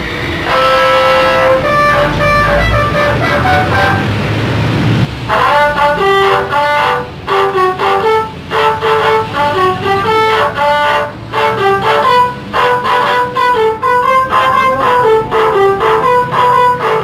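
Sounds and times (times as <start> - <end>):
multi-tone bus horn melody: 0.4 - 4.4, 5.0 - 17.0.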